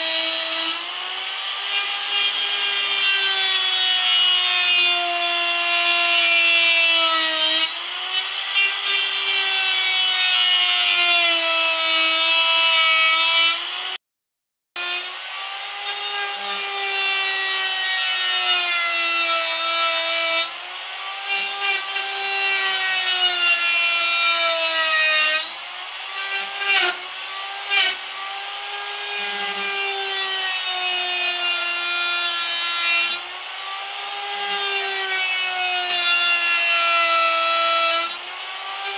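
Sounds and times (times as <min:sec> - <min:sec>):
rotary tool grinding wood: 0:00.0 - 0:14.0, 0:14.8 - 0:38.9.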